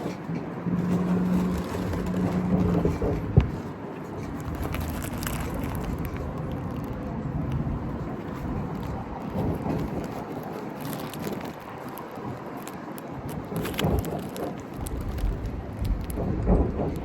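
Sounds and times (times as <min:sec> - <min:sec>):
vehicle hum: 0:00.0 - 0:17.0.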